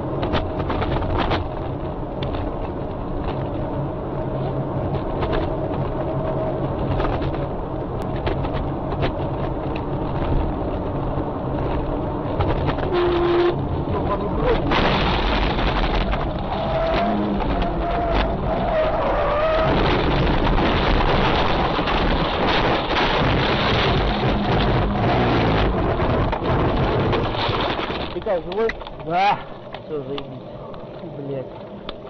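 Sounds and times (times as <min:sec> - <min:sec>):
small rattles and clicks: 0:00.0 - 0:03.8, 0:04.4 - 0:18.7, 0:19.4 - 0:32.0
car engine and tyre noise: 0:00.0 - 0:32.0.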